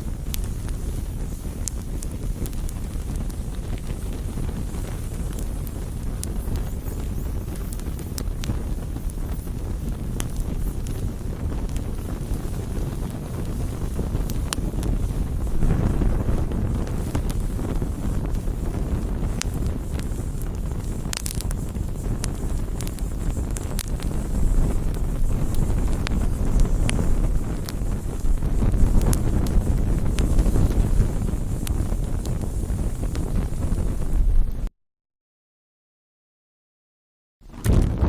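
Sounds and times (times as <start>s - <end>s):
burning wood crackling and popping: 0.0s - 34.7s, 37.5s - 38.0s
campfire flames rumbling: 0.0s - 34.7s, 37.5s - 38.0s.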